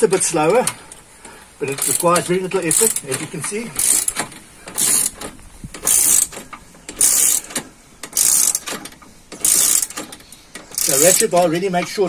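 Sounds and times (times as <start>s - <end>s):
jack ratchet clicking: 0.5s - 11.5s.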